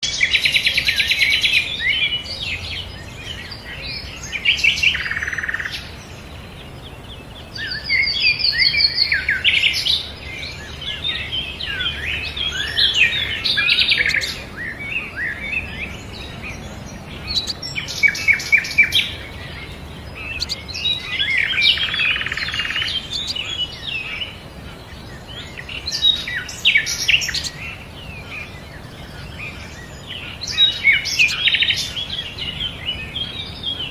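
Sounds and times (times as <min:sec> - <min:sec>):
sunbird chirping and trilling: 0:00.0 - 0:33.9.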